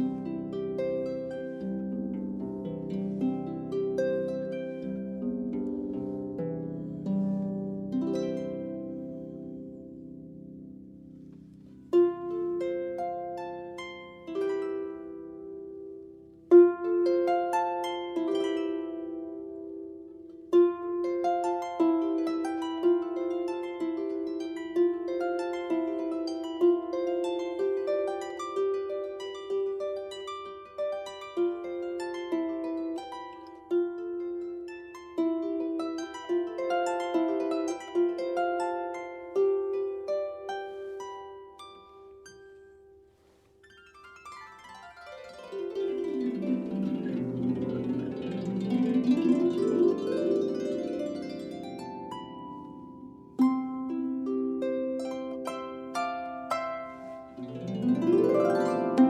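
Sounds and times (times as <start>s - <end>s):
harp notes plucked: 0.0s - 59.0s.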